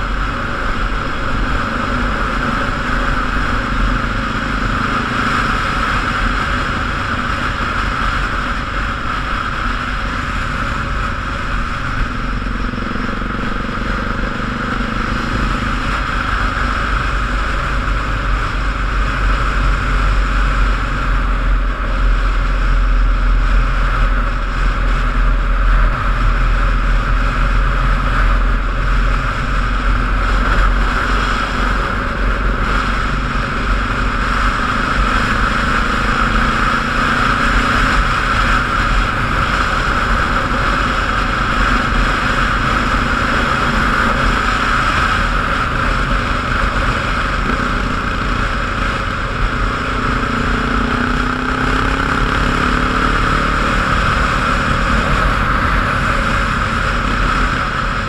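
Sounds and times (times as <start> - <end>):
heavy low rumble: 0.0 - 58.0
road noise: 0.0 - 58.0
vehicle engine: 0.0 - 58.0.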